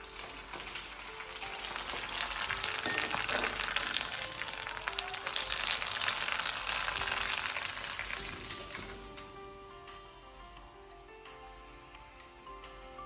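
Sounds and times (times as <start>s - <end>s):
frying in hot oil: 0.0s - 12.6s.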